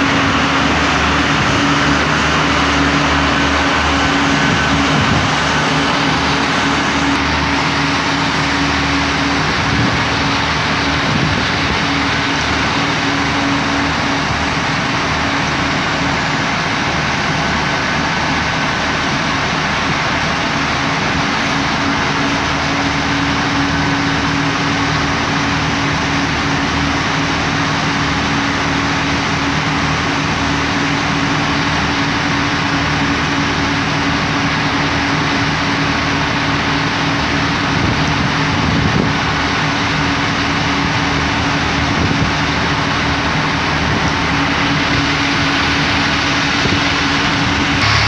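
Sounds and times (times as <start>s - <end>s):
diesel train engines idling: 0.0s - 48.0s.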